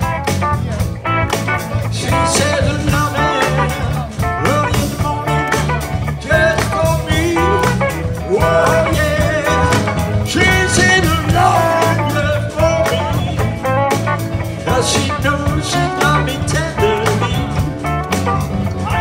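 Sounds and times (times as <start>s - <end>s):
live blues band playing: 0.0s - 19.0s.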